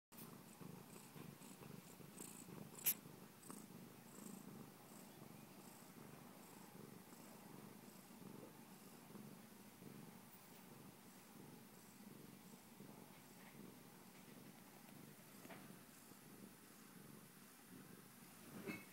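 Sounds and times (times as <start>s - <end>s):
cat purring: 0.2s - 18.9s.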